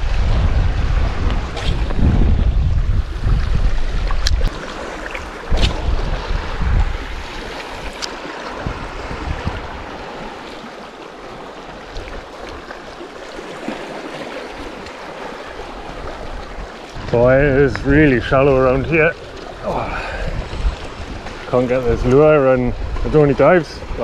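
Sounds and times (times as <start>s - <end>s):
wind rumbling on microphone: 0.0s - 24.0s
small waves lapping among rocks: 3.2s - 24.0s.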